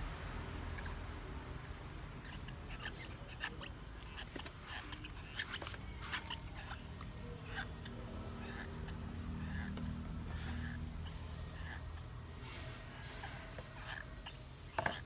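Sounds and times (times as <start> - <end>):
baby monkey squeaking: 0.5 - 15.0.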